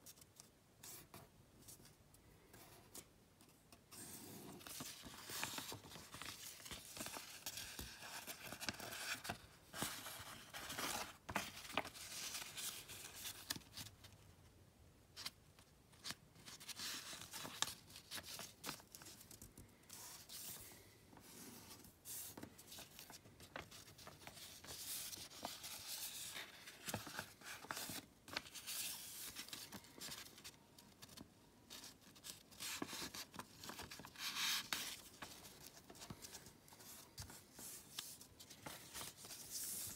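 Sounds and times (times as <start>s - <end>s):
paper rustling and crinkling: 3.9s - 14.2s, 15.2s - 39.9s.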